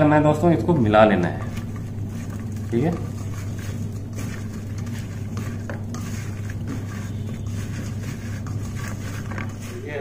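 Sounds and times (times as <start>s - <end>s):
steady low hum: 0.0s - 10.0s
chicken squelching in steel bowl: 0.4s - 10.0s.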